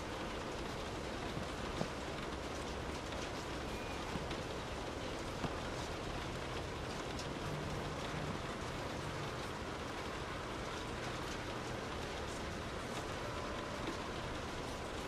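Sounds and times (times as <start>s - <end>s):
soft rain falling: 0.0s - 15.0s.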